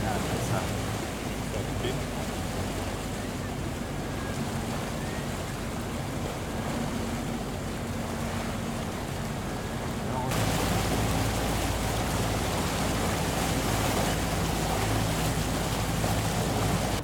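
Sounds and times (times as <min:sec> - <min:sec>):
boat engine drone: 0:00.0 - 0:17.0
water rushing: 0:00.0 - 0:17.0.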